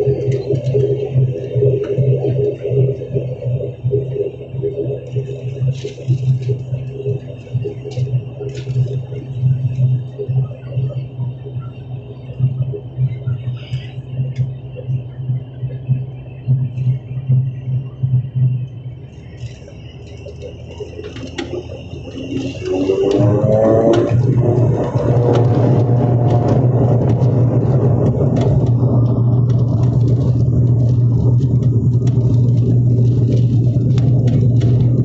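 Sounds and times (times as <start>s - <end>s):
turboprop engines droning: 0.0s - 35.0s.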